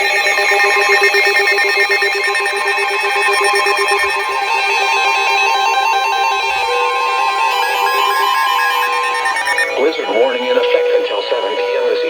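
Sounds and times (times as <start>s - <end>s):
pulsing electronic warble: 0.0s - 12.0s
steady single-pitch tone: 0.0s - 12.0s.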